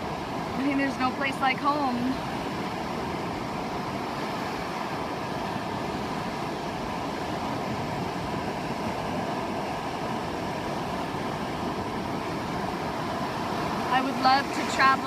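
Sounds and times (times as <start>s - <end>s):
ocean surf: 0.0s - 15.0s.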